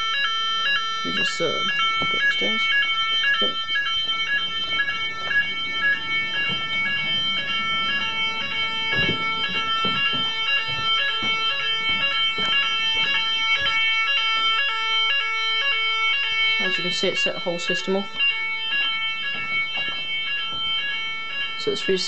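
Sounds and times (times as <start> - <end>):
fire alarm warbling: 0.0 - 22.0
steady alarm tone: 0.0 - 22.0.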